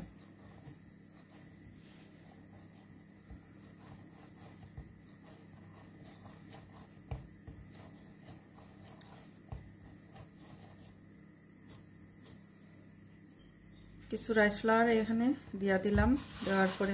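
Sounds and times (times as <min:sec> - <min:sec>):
dough rubbing on board: 0:00.0 - 0:12.4, 0:15.7 - 0:16.9
low steady hum: 0:00.0 - 0:16.9.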